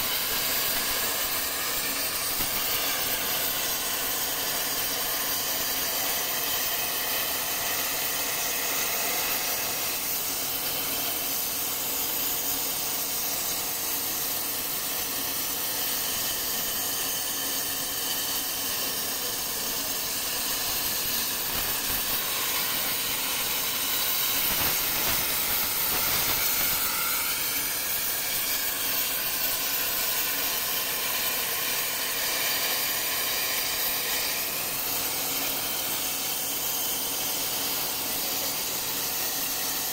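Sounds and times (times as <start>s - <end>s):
plasma arc hissing: 0.0s - 39.9s.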